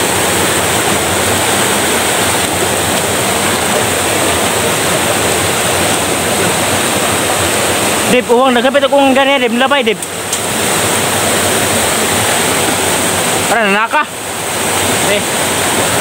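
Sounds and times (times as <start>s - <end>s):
stream rushing over stones: 0.0s - 16.0s.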